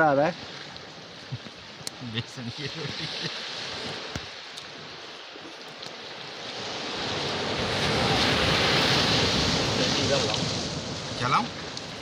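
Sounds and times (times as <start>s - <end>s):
sea surf washing on shore: 0.0s - 12.0s.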